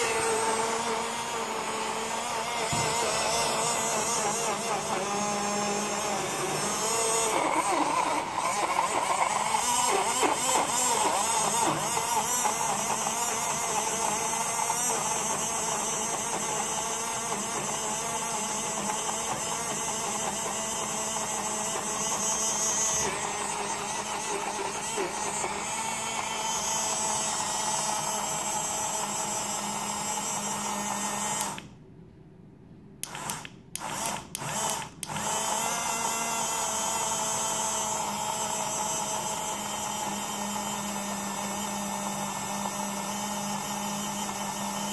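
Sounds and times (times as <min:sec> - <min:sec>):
blender motor whirring: 0:00.0 - 0:31.8, 0:33.0 - 0:44.9.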